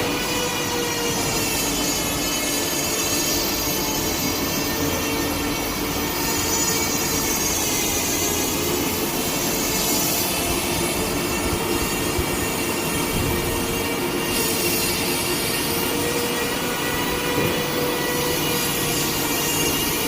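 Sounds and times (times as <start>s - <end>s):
machine whirring: 0.0s - 20.0s.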